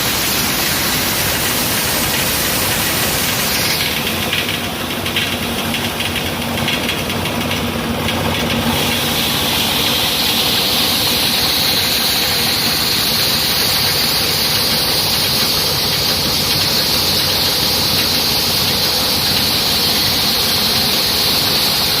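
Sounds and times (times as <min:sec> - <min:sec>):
hammer mill running: 0:00.0 - 0:22.0
high mechanical whine: 0:00.0 - 0:22.0.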